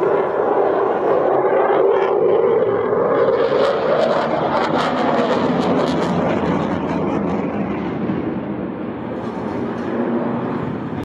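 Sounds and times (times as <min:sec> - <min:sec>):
jet roar with crackle: 0:00.0 - 0:11.0.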